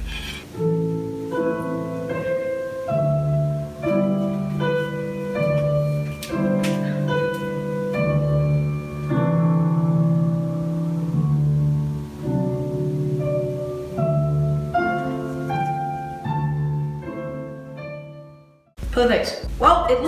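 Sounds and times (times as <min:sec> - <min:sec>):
gentle instrumental music: 0:00.0 - 0:20.0.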